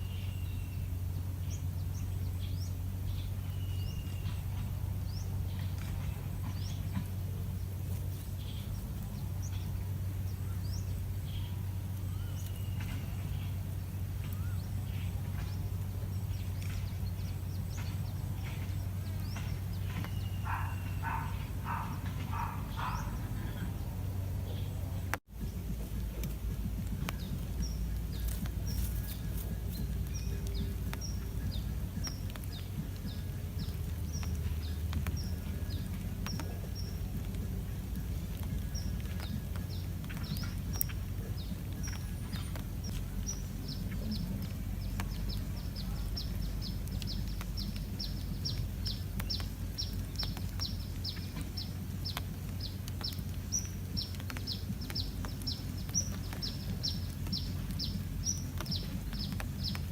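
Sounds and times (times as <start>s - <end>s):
bird chirping: 0.0s - 59.9s
steady low rumble: 0.0s - 59.9s.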